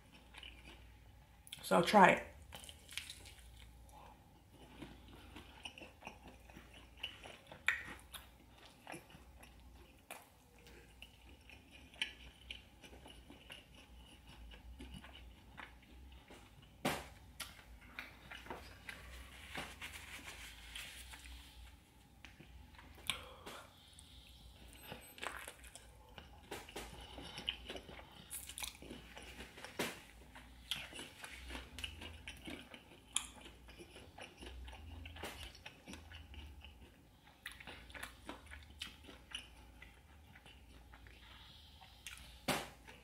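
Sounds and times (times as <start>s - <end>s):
chewing crispy food: 0.0s - 1.6s, 2.3s - 43.0s.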